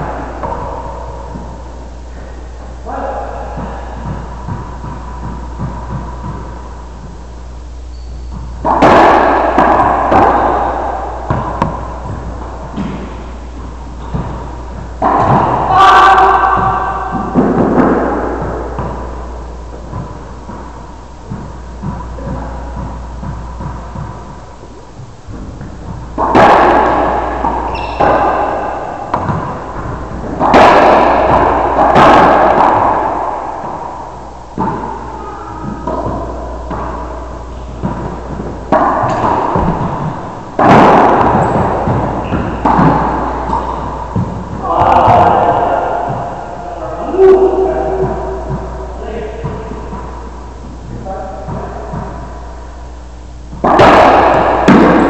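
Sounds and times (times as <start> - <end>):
racquetball hits echoing: 0.0 - 55.0.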